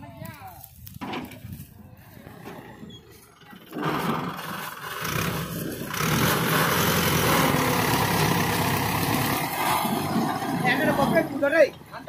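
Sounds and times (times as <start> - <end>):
tractor diesel engine revving: 2.0 - 12.0.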